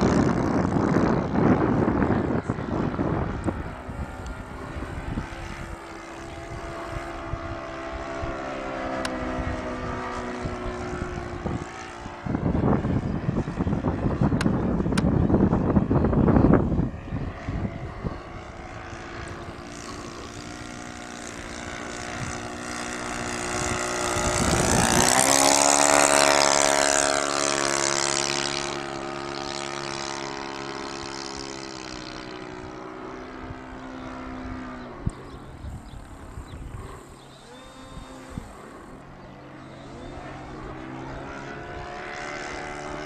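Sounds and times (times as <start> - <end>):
model plane motor droning: 0.0 - 43.0
wind buffeting microphone: 0.0 - 43.0.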